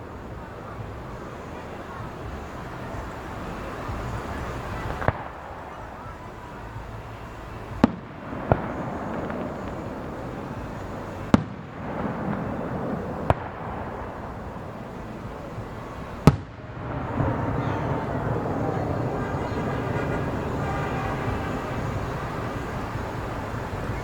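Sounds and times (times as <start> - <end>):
background rumble: 0.0 - 24.0
fireworks bursting: 0.0 - 24.0.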